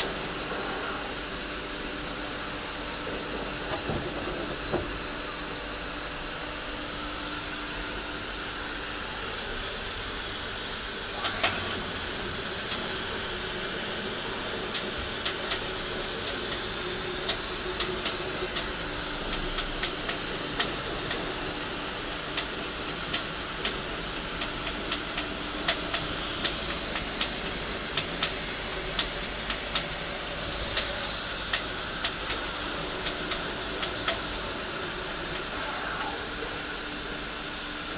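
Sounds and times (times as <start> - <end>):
lathe running with high whine: 0.0 - 37.9.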